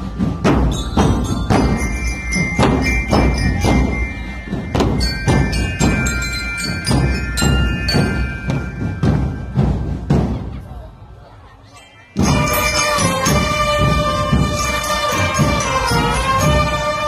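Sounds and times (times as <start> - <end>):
bass drums beating a march: 0.0 - 11.0, 12.2 - 17.0
bell lyres ringing a melody: 0.0 - 17.0.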